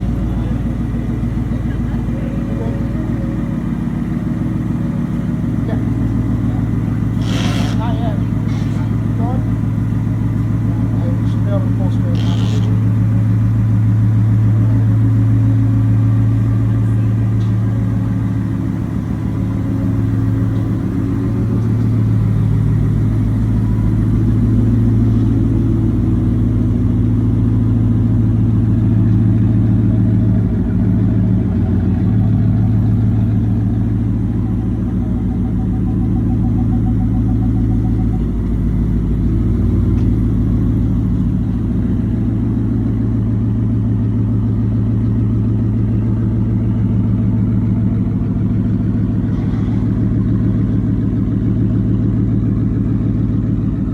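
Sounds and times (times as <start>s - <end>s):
pickup truck engine at low revs: 0.0s - 53.9s.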